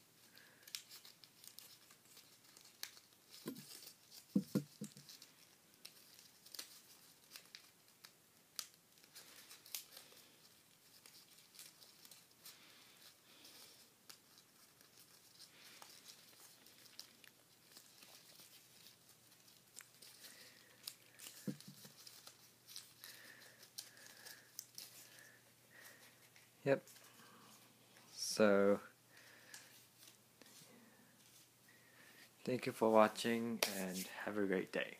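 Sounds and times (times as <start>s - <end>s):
paper crinkling as it is folded: 0.0s - 28.2s, 29.3s - 31.5s, 32.9s - 34.2s.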